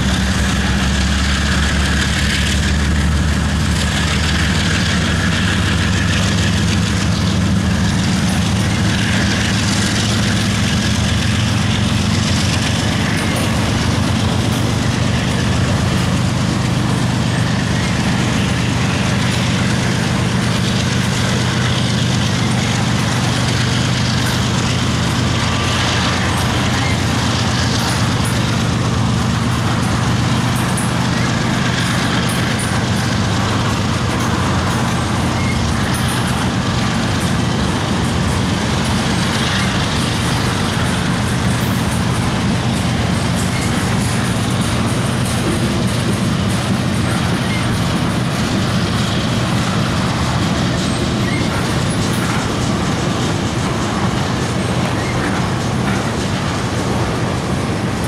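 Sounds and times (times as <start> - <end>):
diesel locomotives engine drone: 0.0 - 58.0
freight cars rolling past: 0.0 - 58.0.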